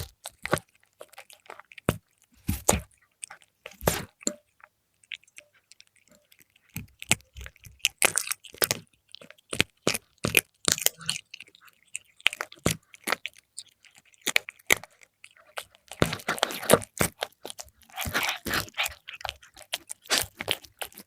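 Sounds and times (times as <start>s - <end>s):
cat crunching food: 0.0s - 21.0s.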